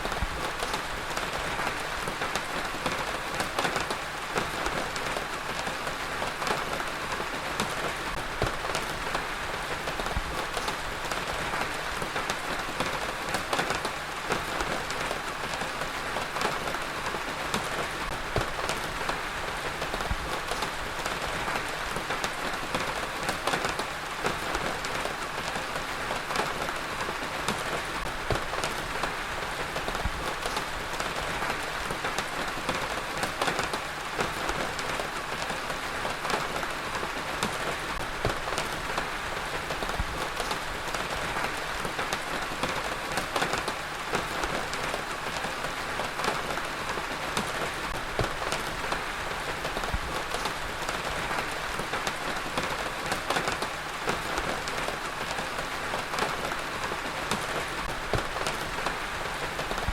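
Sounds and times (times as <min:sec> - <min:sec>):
heavy rain falling: 0:00.0 - 0:59.9
raindrops ticking close by: 0:00.0 - 0:59.9.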